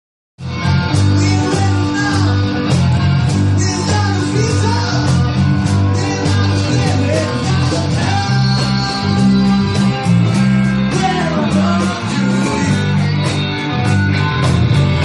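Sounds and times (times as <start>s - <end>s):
guitar with bending notes: 0.4s - 15.0s
live rock band playing blues: 0.4s - 15.0s.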